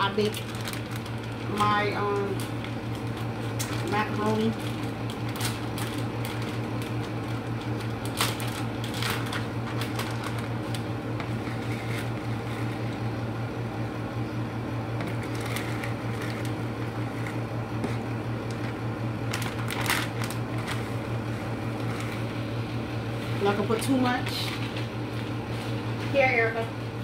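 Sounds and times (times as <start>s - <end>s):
low electric hum: 0.0s - 27.0s.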